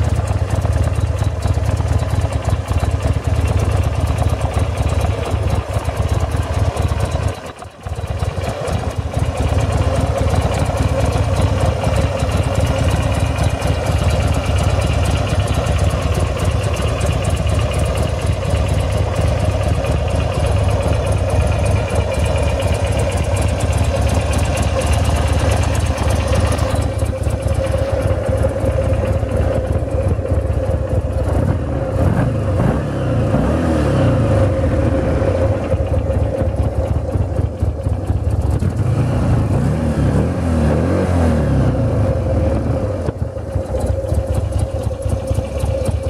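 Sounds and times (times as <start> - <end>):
motorcycle engine idling and revving: 0.0 - 46.0.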